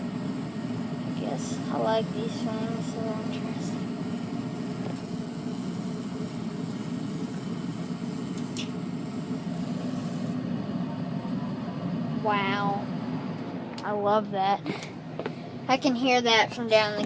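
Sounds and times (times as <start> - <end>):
gas furnace running: 0.0 - 17.0.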